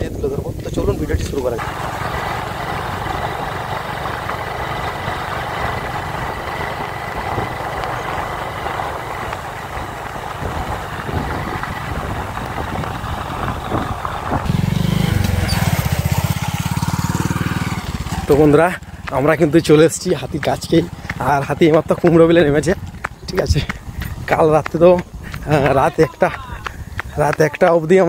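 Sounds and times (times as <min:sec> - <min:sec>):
road and wind noise: 0:00.0 - 0:28.0
motorcycle engine running: 0:01.3 - 0:27.4.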